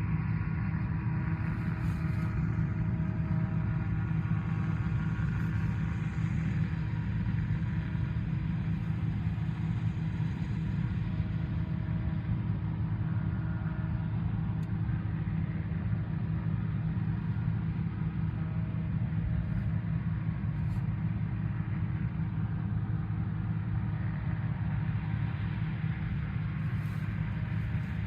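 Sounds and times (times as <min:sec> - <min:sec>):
large engine rumbling: 0:00.0 - 0:28.0.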